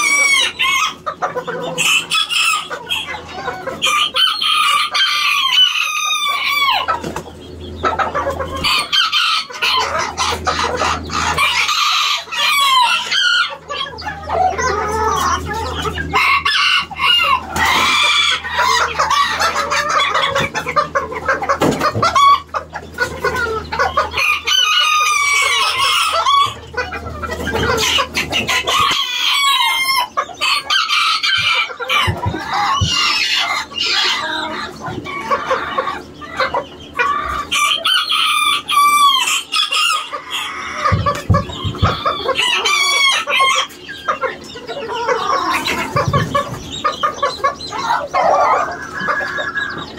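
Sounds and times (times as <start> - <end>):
chickens clucking: 0.0 - 49.9
roosters crowing: 0.0 - 49.9.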